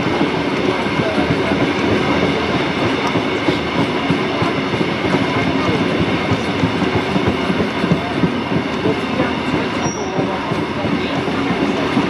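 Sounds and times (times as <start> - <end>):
train carriage rumble and rattle: 0.0 - 12.0
wheels clicking over rails: 0.0 - 12.0.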